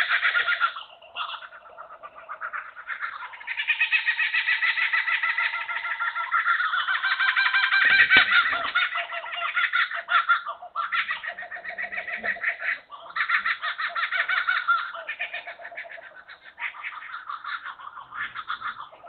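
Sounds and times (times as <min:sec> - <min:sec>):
kookaburra laughing call: 0:00.0 - 0:19.0.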